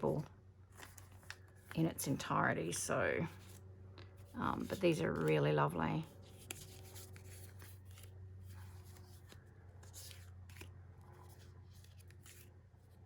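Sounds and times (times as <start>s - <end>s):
low steady hum: 0.0s - 13.0s
paper and plastic rustling: 0.1s - 1.8s, 3.3s - 13.0s.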